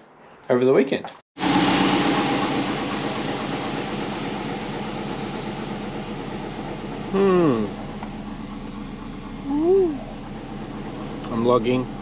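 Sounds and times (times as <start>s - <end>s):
boxer engine idling: 1.4s - 12.0s.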